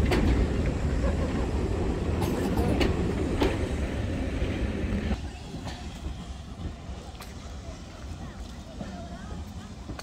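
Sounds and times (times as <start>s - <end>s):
train carriages rumbling past: 0.0s - 10.0s
wheels clicking over rail joints: 0.0s - 10.0s.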